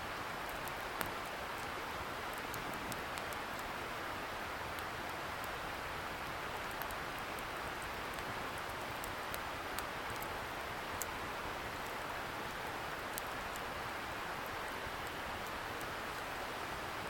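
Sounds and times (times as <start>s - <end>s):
bonfire crackling and popping: 0.2s - 16.4s.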